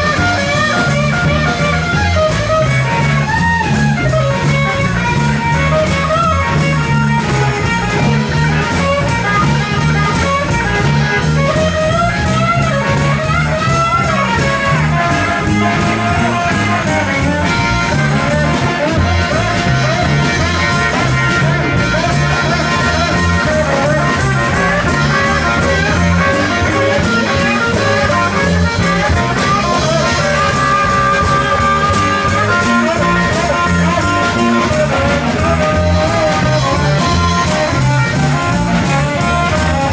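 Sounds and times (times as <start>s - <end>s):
blues-rock band playing: 0.0s - 39.9s
electric guitar melody: 0.0s - 39.9s.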